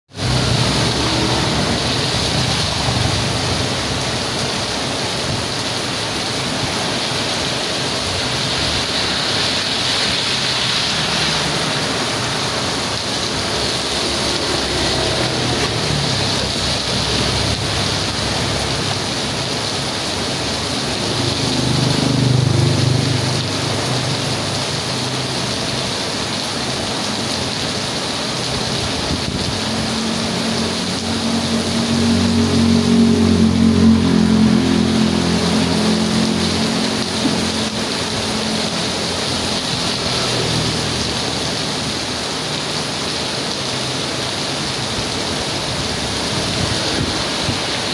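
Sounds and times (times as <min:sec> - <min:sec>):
heavy rain pouring: 0:00.1 - 0:47.9.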